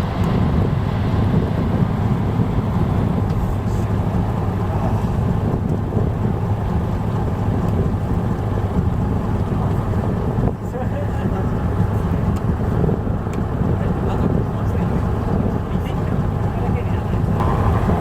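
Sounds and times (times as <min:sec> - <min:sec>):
boat engine droning: 0:00.0 - 0:18.0
wind on microphone: 0:00.0 - 0:18.0.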